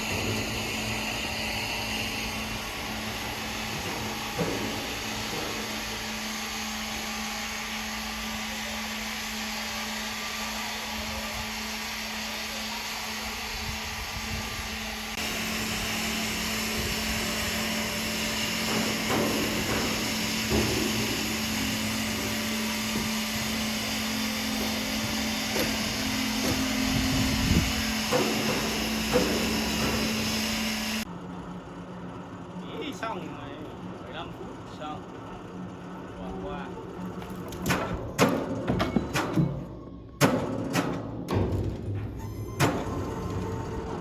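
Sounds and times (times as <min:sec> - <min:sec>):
sawmill machinery humming: 0:00.0 - 0:44.0.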